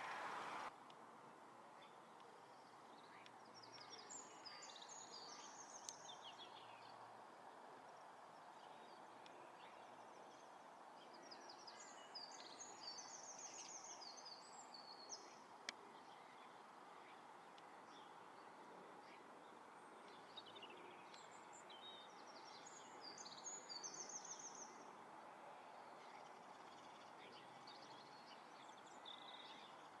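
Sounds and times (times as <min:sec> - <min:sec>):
background hiss: 0:00.0 - 0:30.0
songbird singing: 0:01.8 - 0:30.0.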